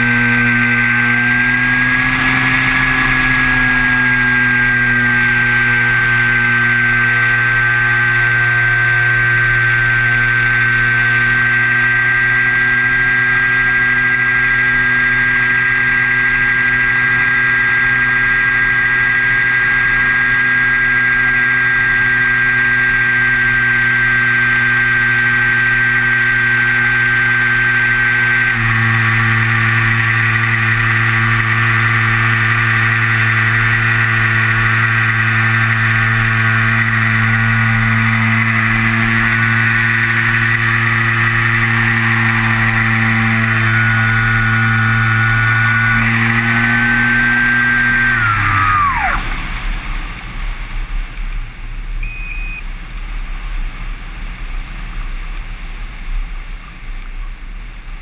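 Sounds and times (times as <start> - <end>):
motor spinning down: 0.0 - 50.8
electric motor and propeller whine: 0.0 - 51.4.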